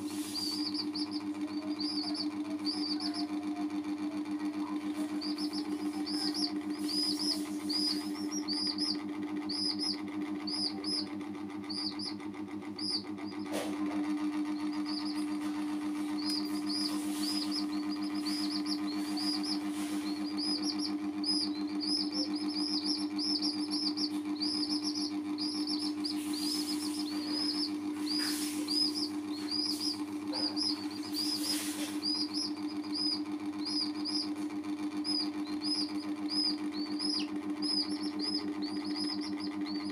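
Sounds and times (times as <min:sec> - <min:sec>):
baby chicks peeping: 0:00.0 - 0:39.9
low electrical hum: 0:00.0 - 0:39.9.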